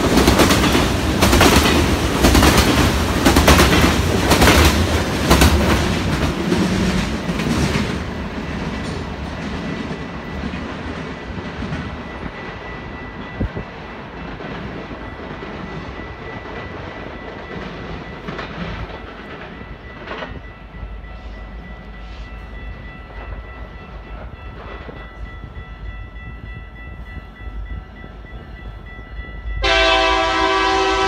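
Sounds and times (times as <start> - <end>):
train wheels clicking over rail joints: 0.0 - 25.2.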